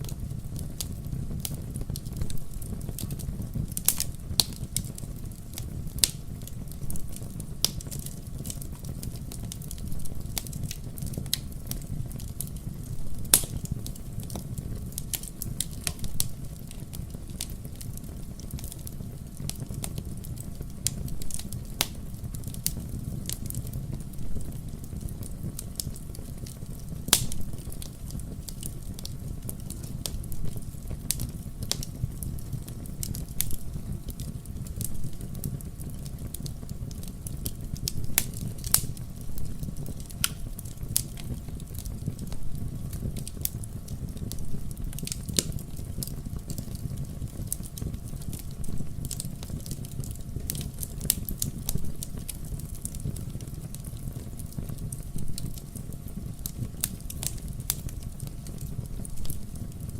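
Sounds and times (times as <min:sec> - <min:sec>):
fire crackling and popping: 0:00.0 - 0:59.9
fire flames rumbling: 0:00.0 - 0:59.9.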